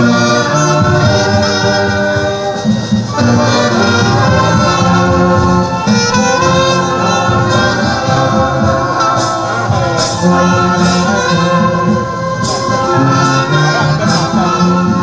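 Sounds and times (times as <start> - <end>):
held instrumental chords: 0.0 - 15.0
person singing: 0.0 - 15.0.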